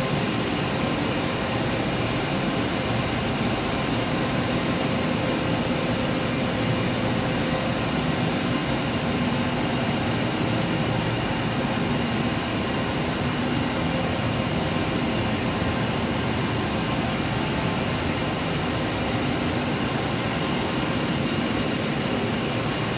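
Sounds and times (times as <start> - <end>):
constant machine whine: 0.0 - 22.9
spinning mill machinery drone: 0.0 - 22.9.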